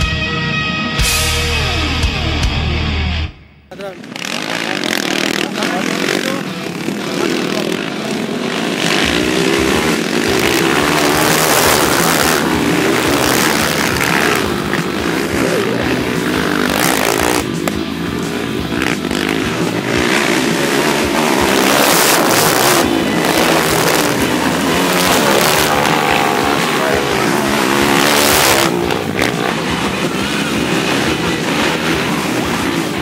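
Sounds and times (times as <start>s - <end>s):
dirt bike engines revving: 3.7s - 33.0s.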